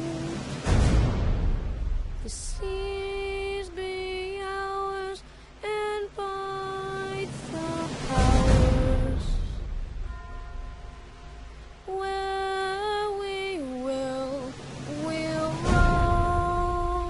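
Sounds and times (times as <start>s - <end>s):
person singing slow melody: 0.0s - 0.8s, 2.2s - 10.2s, 10.8s - 17.0s.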